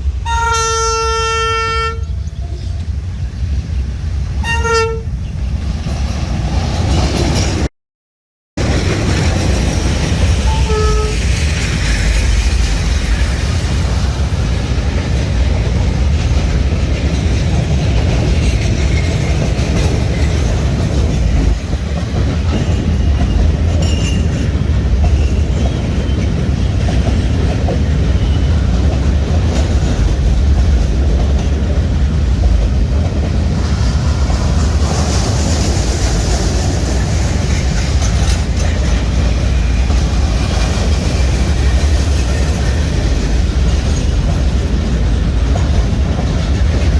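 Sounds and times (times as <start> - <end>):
train wheels rumbling on rails: 0.0 - 7.7, 8.6 - 46.9.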